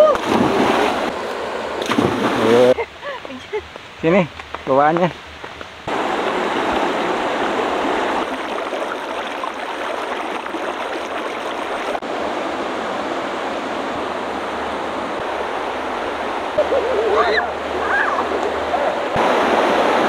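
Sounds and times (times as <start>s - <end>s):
river water rushing: 0.1s - 2.8s, 5.8s - 20.0s.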